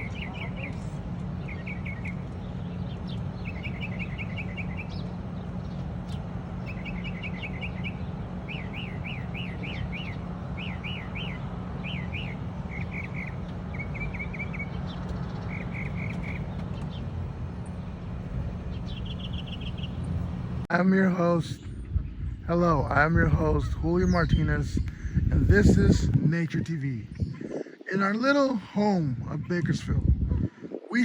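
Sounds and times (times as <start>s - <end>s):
low background rumble: 0.0s - 31.0s
songbird chirping: 0.0s - 31.0s.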